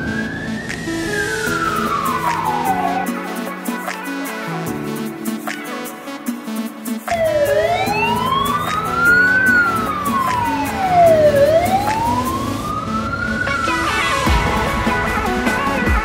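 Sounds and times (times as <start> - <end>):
fire engine siren wailing: 0.0 - 5.1, 7.1 - 15.8
background music with steady beat: 0.0 - 16.0.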